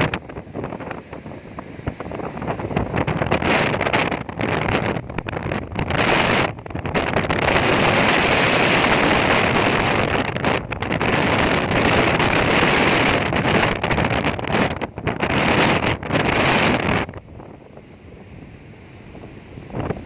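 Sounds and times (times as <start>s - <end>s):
sea waves breaking: 0.0s - 20.0s
wind buffeting microphone: 0.0s - 20.0s.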